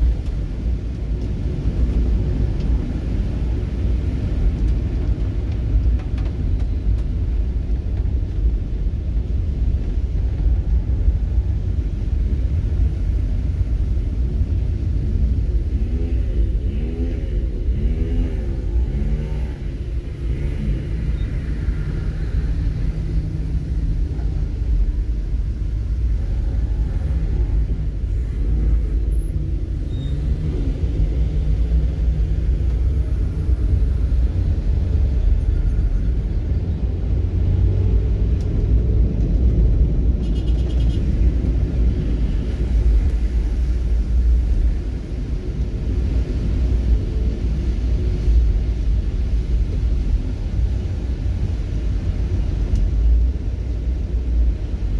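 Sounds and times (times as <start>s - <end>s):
road vehicle engine rumble: 0.0s - 54.9s.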